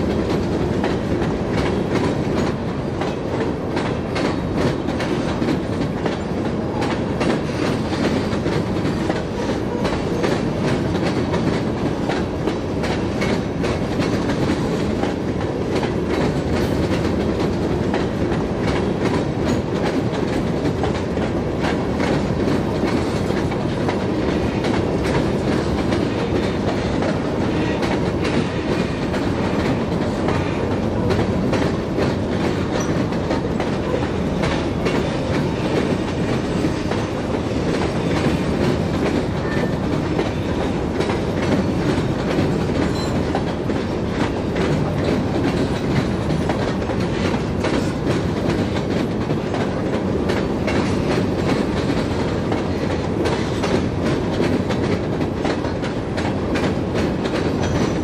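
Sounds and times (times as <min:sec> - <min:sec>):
freight cars rolling on rails: 0:00.0 - 0:58.0.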